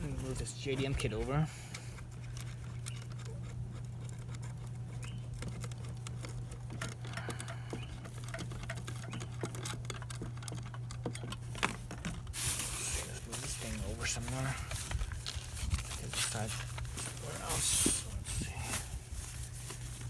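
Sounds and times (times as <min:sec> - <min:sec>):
small parts clicking and rustling: 0:00.0 - 0:20.0
steady low hum: 0:00.0 - 0:20.0.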